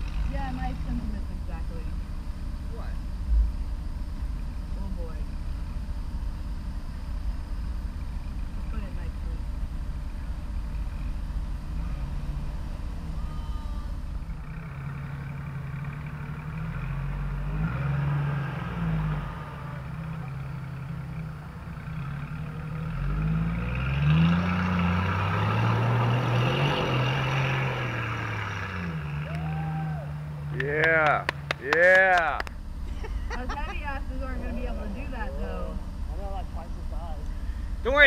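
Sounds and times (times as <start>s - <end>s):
engine revving: 0.0s - 3.8s, 7.9s - 32.6s, 33.2s - 38.0s.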